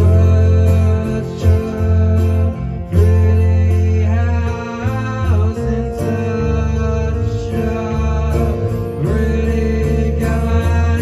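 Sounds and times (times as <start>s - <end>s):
acoustic guitar: 0.0s - 11.0s
bass guitar: 0.0s - 11.0s
man singing: 0.0s - 11.0s.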